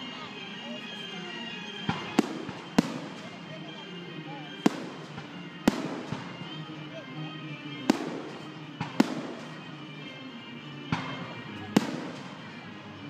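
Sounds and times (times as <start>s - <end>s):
faint music: 0.0s - 13.0s
fireworks rumble: 0.0s - 13.0s
fireworks bangs: 1.5s - 13.0s.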